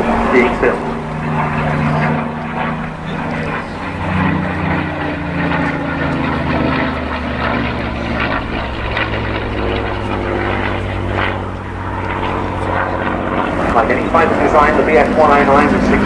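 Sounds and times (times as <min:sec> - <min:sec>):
propeller plane engine in flight: 0:00.0 - 0:16.0.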